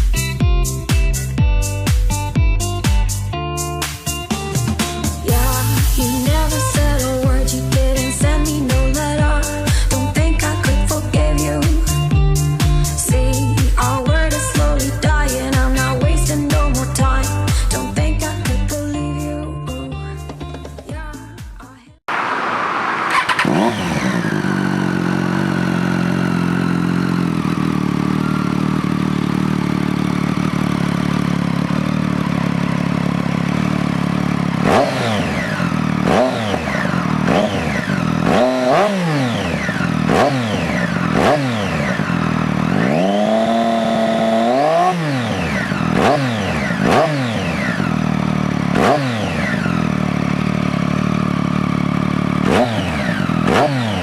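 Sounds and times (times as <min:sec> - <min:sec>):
motorcycle engine idling: 0:00.0 - 0:19.4, 0:22.2 - 0:54.0
motorcycle engine revving: 0:00.0 - 0:20.9, 0:22.1 - 0:54.0.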